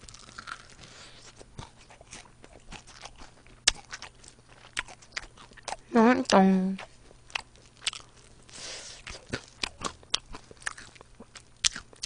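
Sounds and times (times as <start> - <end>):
crunching and chewing chicken: 0.0 - 12.0.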